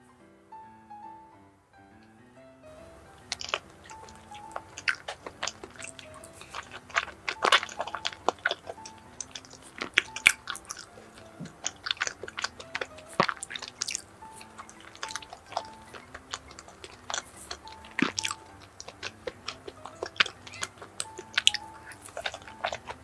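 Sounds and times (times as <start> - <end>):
soft background music: 0.0 - 23.0
chewing rice cake: 2.7 - 23.0
wet mouth clicks and bites: 2.7 - 23.0.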